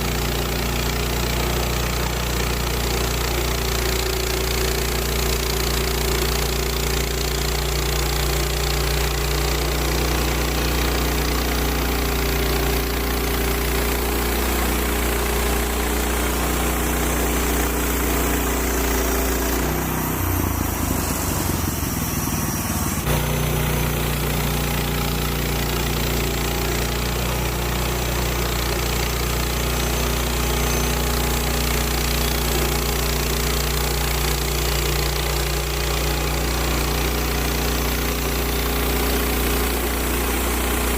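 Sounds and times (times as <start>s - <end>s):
bandsaw mill engine sawing log: 0.0s - 40.9s.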